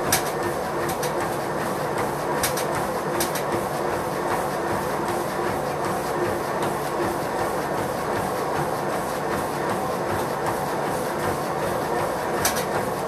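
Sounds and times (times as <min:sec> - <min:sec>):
footfalls on treadmill: 0:00.0 - 0:13.0
treadmill belt and motor: 0:00.0 - 0:13.0.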